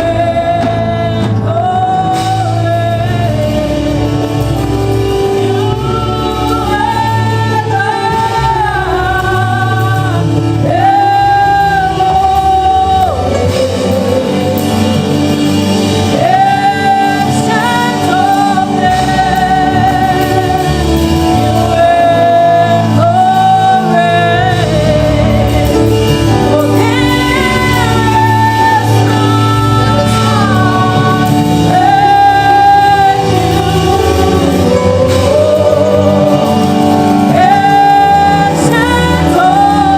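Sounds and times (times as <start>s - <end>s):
gospel singing: 0.0s - 39.9s
instrumental accompaniment: 0.0s - 39.9s.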